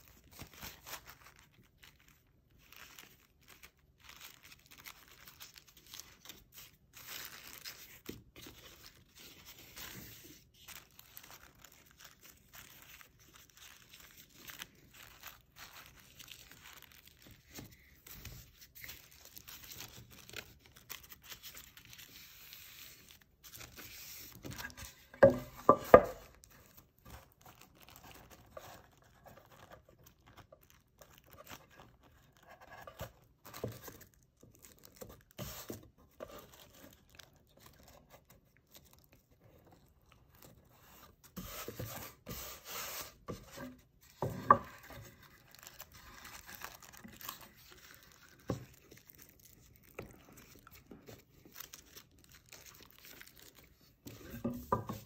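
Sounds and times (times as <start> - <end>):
tissue paper rustling: 0.0 - 55.0.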